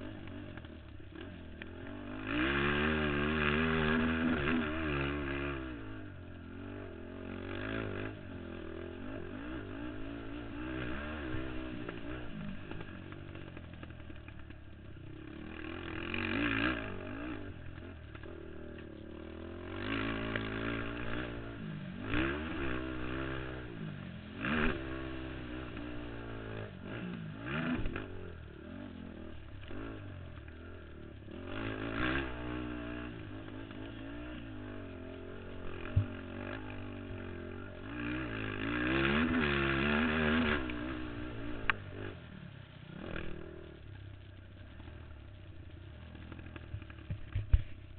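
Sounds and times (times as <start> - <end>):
quad engine revving: 0.0 - 42.3, 42.9 - 44.7.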